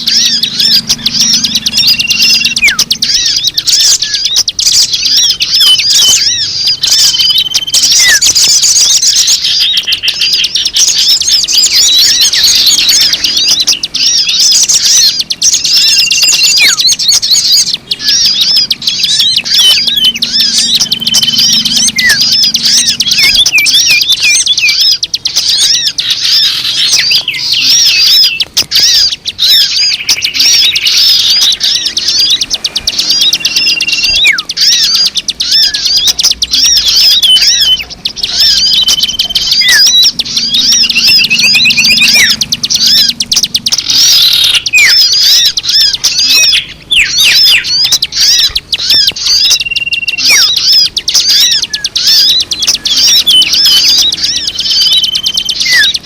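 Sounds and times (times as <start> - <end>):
held bird whistles: 0.0 - 56.0
small birds chirping: 0.0 - 56.0.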